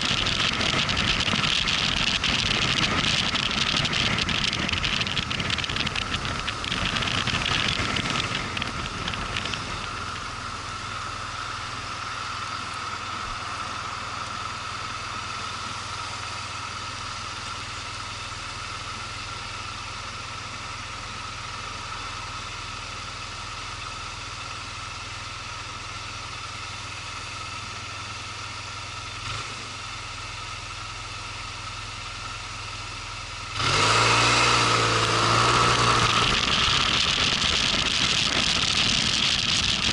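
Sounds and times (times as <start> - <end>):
wind and road noise: 0.0 - 25.6, 28.2 - 39.9
motorcycle engine idling and revving: 0.0 - 39.9.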